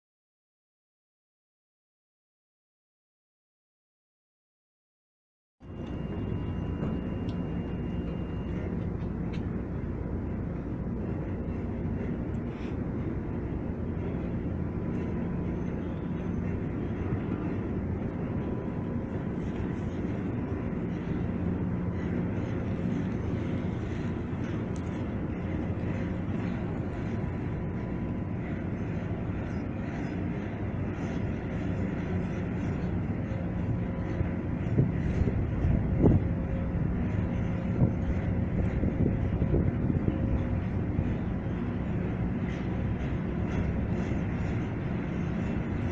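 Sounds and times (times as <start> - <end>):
machinery humming: 5.6 - 45.9.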